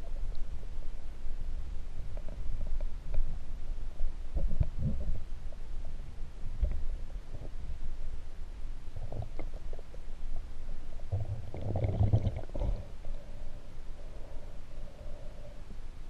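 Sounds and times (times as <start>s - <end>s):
muffled underwater rumbling: 0.0s - 15.4s.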